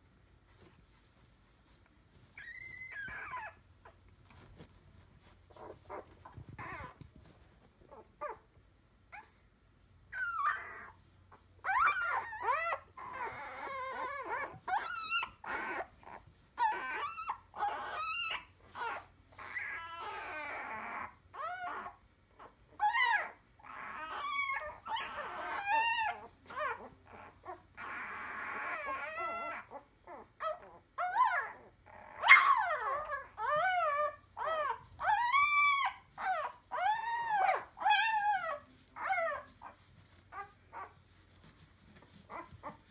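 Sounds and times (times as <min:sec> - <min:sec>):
puppies whimpering and squeaking: 0:02.1 - 0:08.5, 0:10.1 - 0:42.9.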